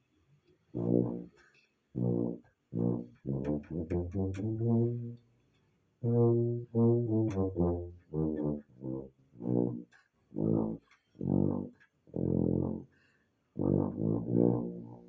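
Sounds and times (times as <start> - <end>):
tuba playing low notes: 0.8 - 1.4, 2.0 - 5.2, 6.0 - 12.9, 13.6 - 15.0.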